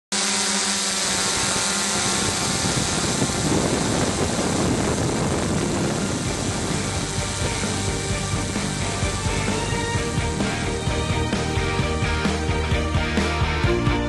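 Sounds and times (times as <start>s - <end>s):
drone propellers whirring: 0.1s - 14.0s.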